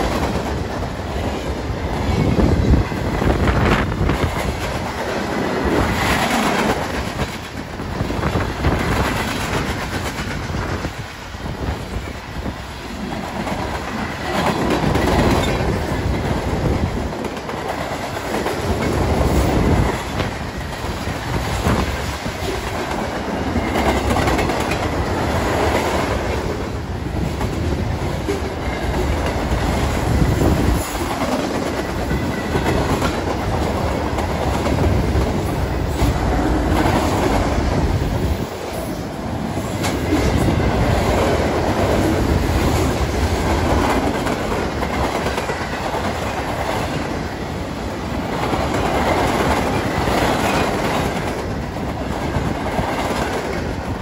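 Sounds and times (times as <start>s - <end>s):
train cars rolling on rails: 0.0s - 54.0s.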